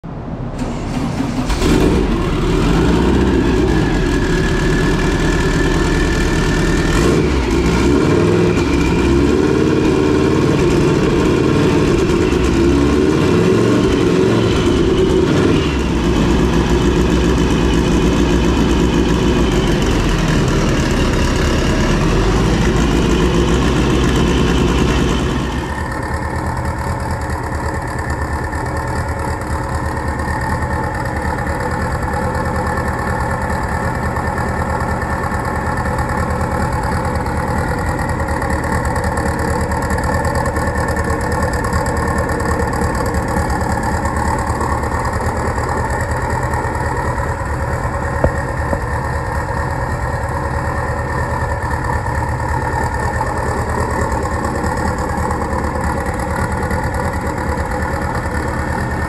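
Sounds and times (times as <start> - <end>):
car engine running: 0.6 - 59.0.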